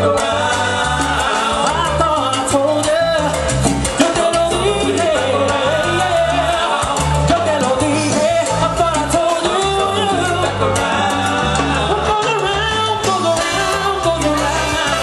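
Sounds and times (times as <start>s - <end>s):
salsa band playing: 0.0s - 15.0s.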